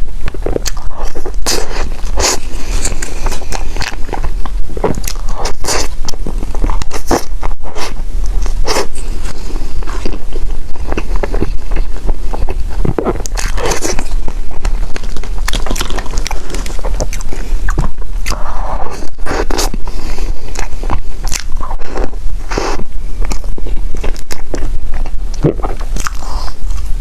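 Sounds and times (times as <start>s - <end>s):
biting and chewing food: 0.0s - 27.0s
low hum: 0.0s - 27.0s.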